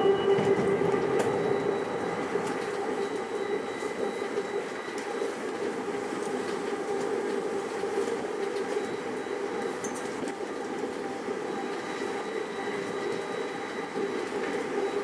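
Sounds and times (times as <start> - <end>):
constant humming tone: 0.0 - 14.6
train running noise: 0.0 - 15.0.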